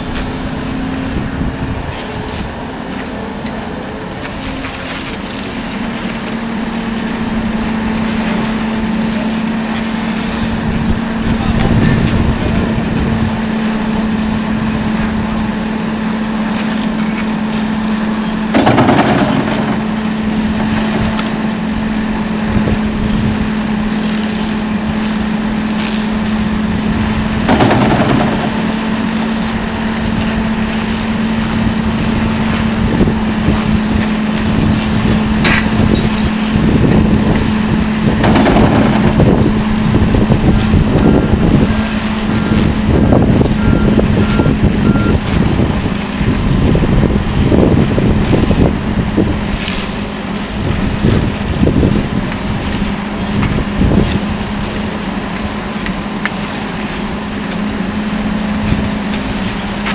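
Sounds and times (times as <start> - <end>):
excavator engine humming: 0.0 - 59.9.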